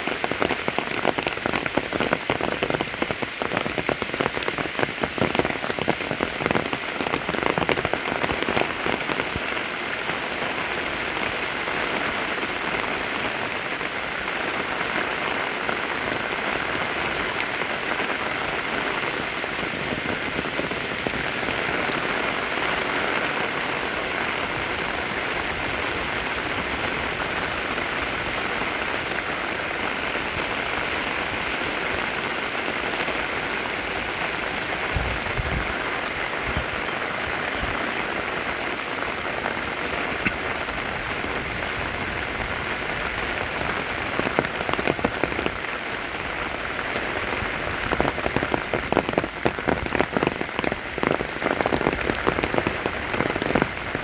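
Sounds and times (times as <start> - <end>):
close raindrops striking: 0.0 - 54.0
steady rain falling: 0.0 - 54.0.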